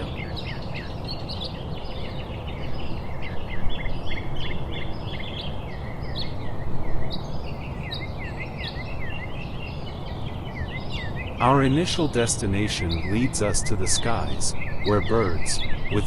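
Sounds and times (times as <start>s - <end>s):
small birds chirping: 0.0s - 16.0s
steady low background noise: 0.0s - 16.0s.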